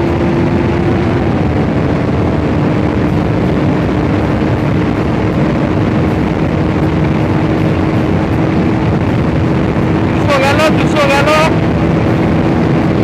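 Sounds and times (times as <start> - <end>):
motorcycle engine at high revs: 0.0 - 13.0
wind rushing noise: 0.0 - 13.0.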